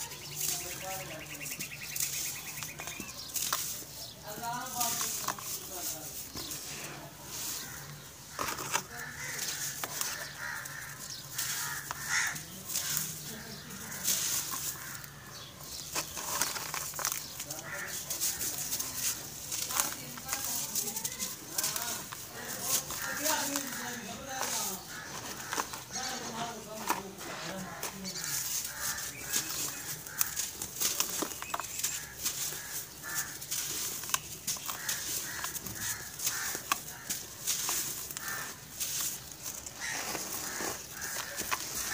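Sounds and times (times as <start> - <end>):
crackle of sifting powder: 0.0 - 41.9
grains trickling: 0.0 - 41.9
chalky lumps crushed by hand: 1.7 - 41.9.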